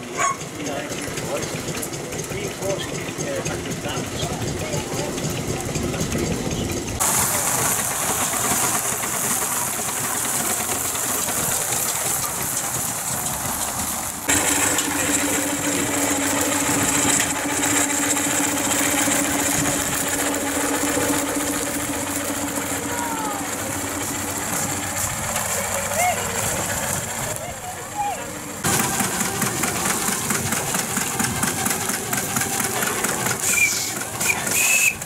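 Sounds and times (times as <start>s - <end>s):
steam engine hissing: 0.0s - 35.0s.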